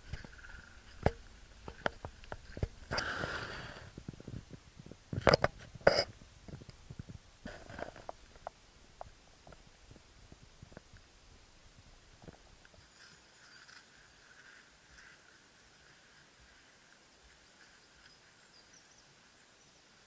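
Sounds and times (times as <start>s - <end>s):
rustling hiss: 0.0s - 20.0s.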